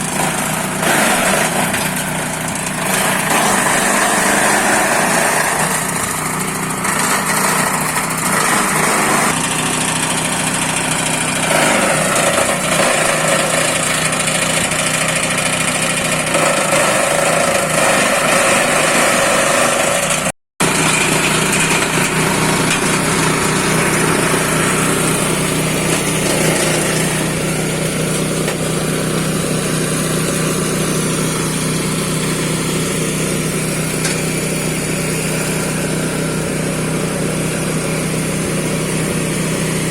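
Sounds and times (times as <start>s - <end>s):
grass chopping machine running: 0.0s - 39.9s.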